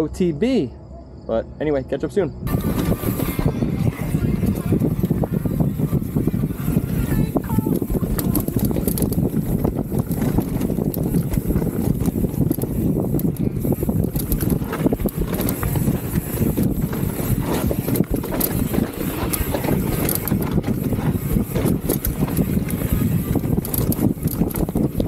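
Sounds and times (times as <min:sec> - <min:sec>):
wind buffeting microphone: 0:02.3 - 0:25.0
bike rattling: 0:02.5 - 0:25.0
bike tyres rumbling on trail: 0:02.5 - 0:25.0.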